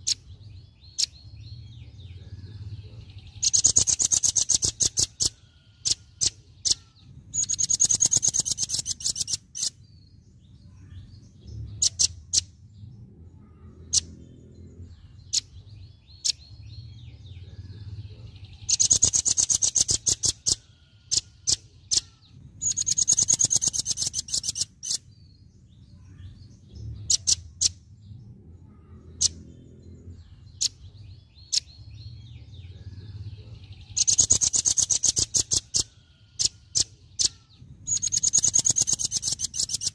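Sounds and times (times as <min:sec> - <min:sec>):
bird chattering trills: 0:00.0 - 0:09.9, 0:11.6 - 0:12.7, 0:13.4 - 0:25.4, 0:26.0 - 0:39.9.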